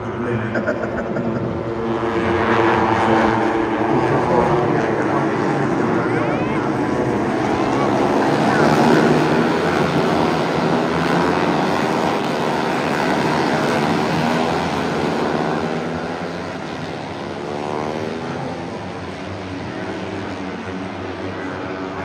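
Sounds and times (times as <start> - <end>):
race bike engines revving past: 0.2 - 22.0.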